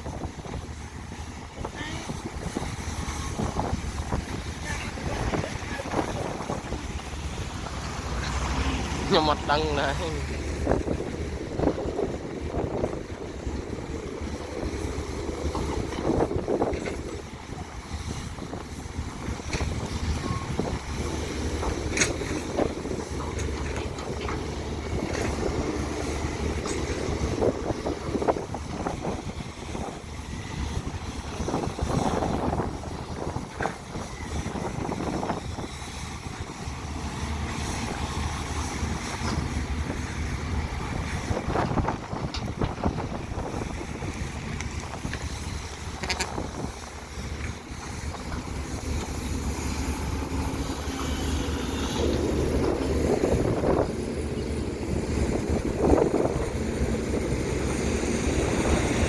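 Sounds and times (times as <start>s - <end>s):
excavator diesel engine humming: 0.0s - 59.0s
wind on microphone: 0.0s - 59.0s.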